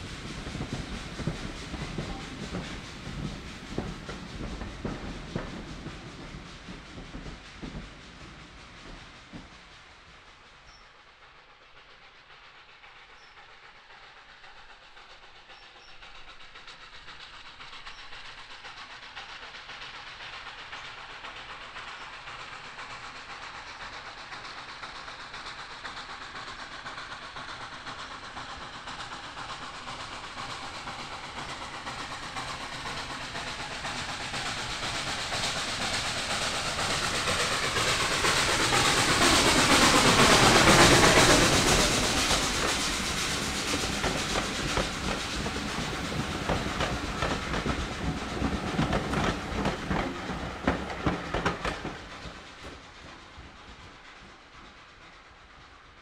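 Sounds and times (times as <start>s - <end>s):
steam locomotive hauling train: 0.0s - 56.0s
wheels rattling on rails: 0.0s - 56.0s.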